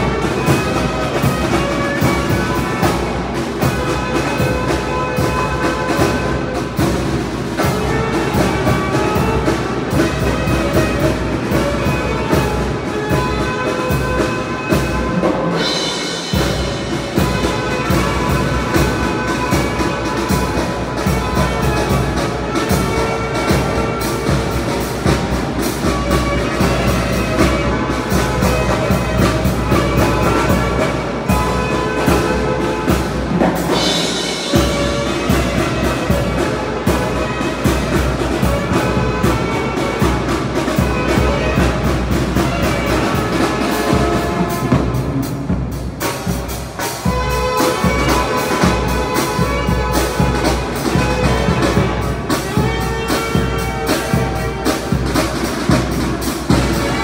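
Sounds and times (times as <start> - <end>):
saxophones and brass playing: 0.0 - 57.0.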